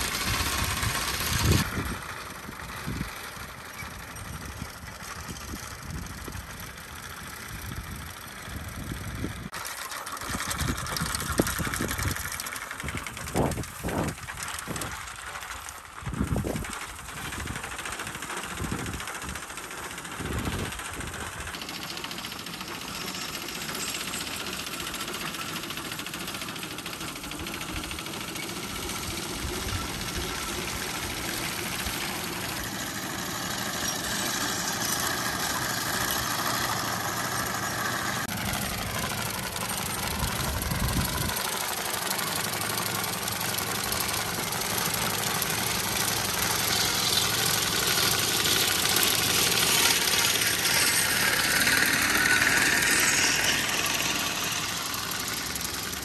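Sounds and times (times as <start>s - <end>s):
hay mower mechanical clatter: 0.0s - 56.0s.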